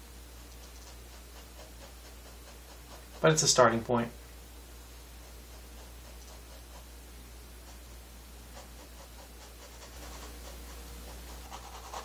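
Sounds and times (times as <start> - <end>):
low steady hum: 0.0 - 12.0
paintbrush scratching canvas: 0.4 - 3.8, 5.1 - 7.0, 7.6 - 12.0.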